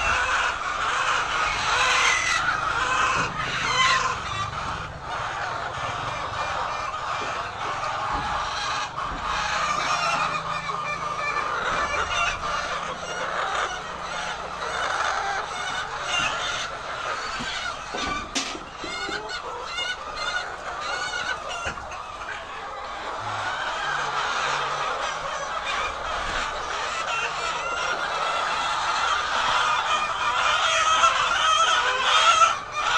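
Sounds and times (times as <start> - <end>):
hens clucking: 0.0 - 32.9.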